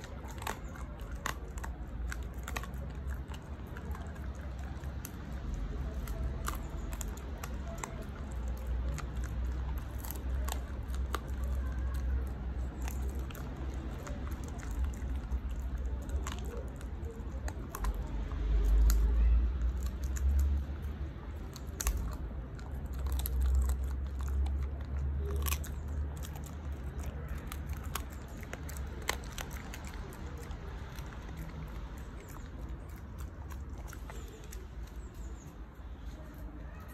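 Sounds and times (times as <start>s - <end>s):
puppy chewing crunchy bones: 0.0s - 36.9s.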